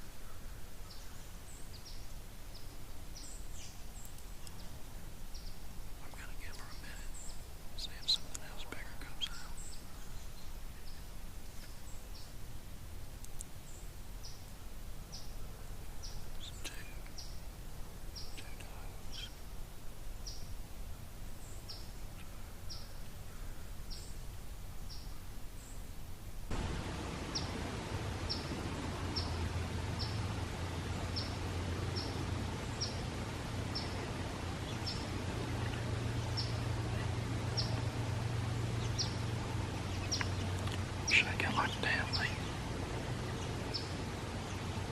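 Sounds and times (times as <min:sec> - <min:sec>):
small birds chirping: 0:00.0 - 0:12.4, 0:13.2 - 0:44.9
low background rumble: 0:00.0 - 0:44.9.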